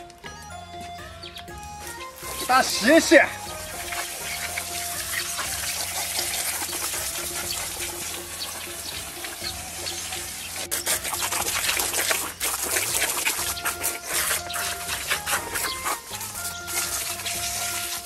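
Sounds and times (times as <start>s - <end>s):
hose spraying water on meat: 1.8s - 18.0s.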